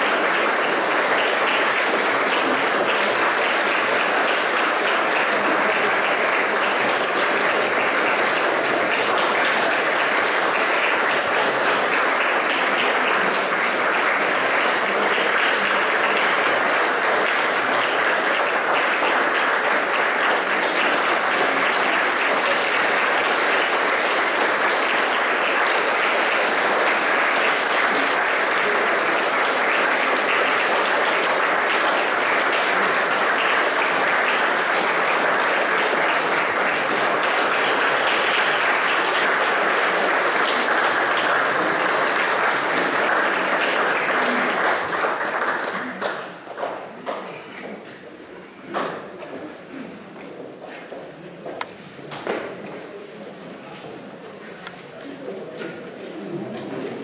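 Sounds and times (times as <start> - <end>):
audience applauding: 0.0 - 49.8.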